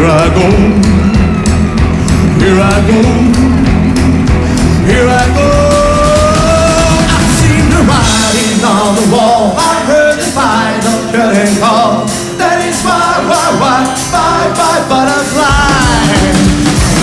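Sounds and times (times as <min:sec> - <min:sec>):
pitch-bending lead guitar line: 0:00.0 - 0:17.0
rockabilly band playing: 0:00.0 - 0:17.0
steady drumbeat: 0:00.0 - 0:17.0.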